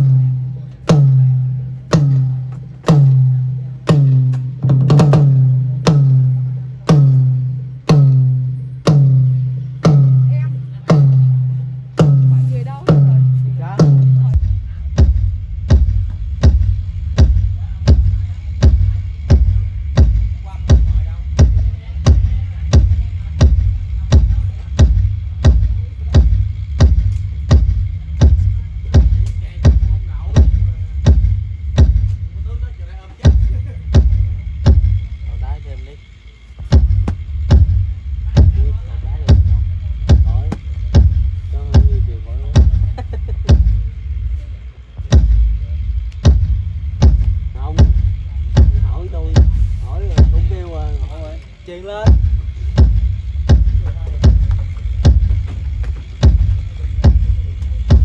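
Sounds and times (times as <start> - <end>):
deep bass through speakers: 0.0 - 58.0
deep booming drum hits: 0.0 - 58.0.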